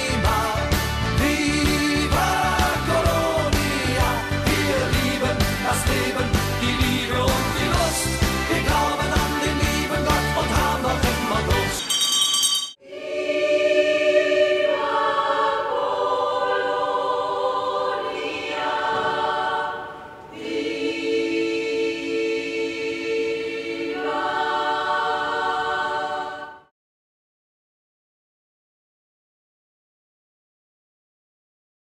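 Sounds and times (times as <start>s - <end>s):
choir singing held chords: 0.0s - 12.0s, 12.8s - 26.7s.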